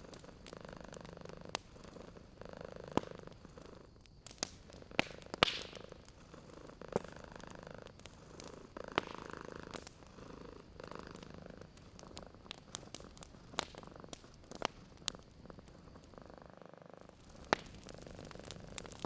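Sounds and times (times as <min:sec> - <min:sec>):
burning wood popping: 0:00.0 - 0:19.0
cat purring: 0:00.0 - 0:19.0
wood fire crackling: 0:00.0 - 0:19.0.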